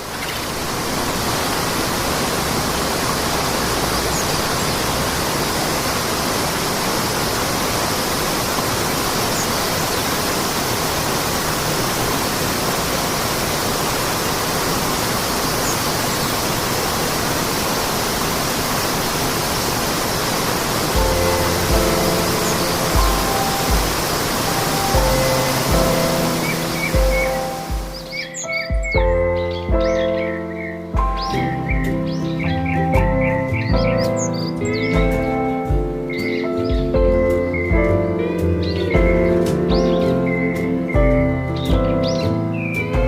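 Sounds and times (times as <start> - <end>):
water rushing: 0.0 - 43.0.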